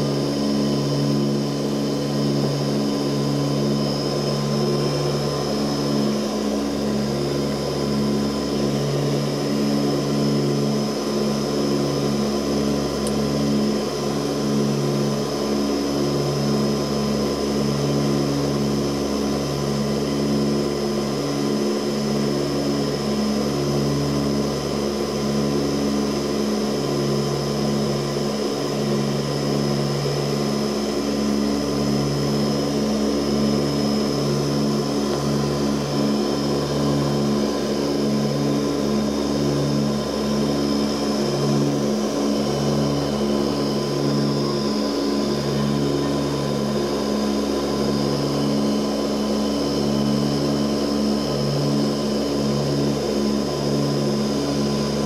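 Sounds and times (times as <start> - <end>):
propeller engines droning: 0.0 - 55.0.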